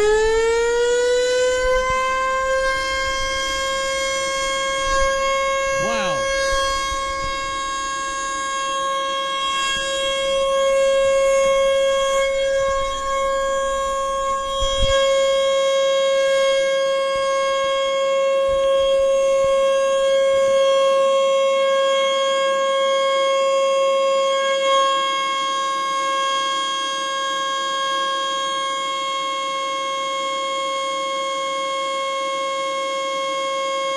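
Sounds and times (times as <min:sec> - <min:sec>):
warning siren steady tone: 0:00.0 - 0:33.9.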